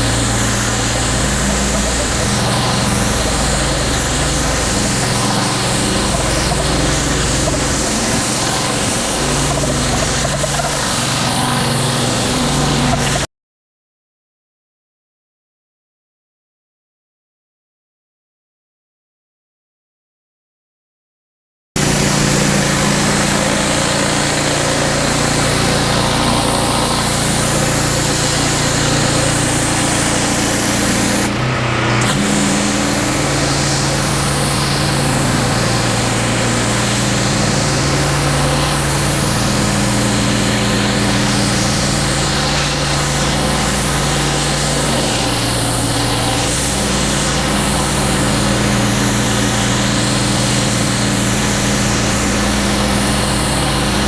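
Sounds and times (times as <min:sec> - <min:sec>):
pressure washer engine drone: 0:00.0 - 0:13.3, 0:21.8 - 0:54.0
water jet hissing on concrete: 0:00.0 - 0:13.3, 0:21.8 - 0:54.0.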